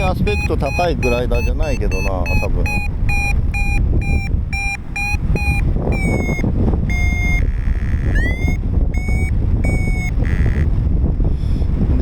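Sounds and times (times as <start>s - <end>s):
variometer beeping: 0.0s - 10.7s
wind buffeting microphone: 0.0s - 12.0s.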